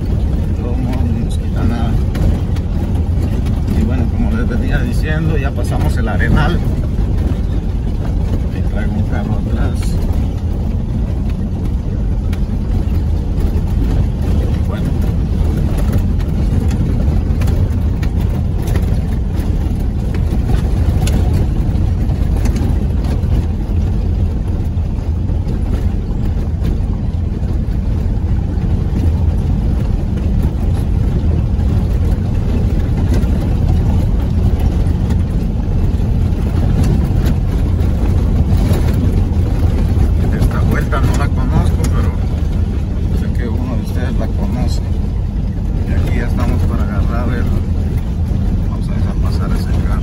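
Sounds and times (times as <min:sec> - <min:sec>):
small rattles: 0:00.0 - 0:50.0
vehicle rumbling on dirt road: 0:00.0 - 0:50.0.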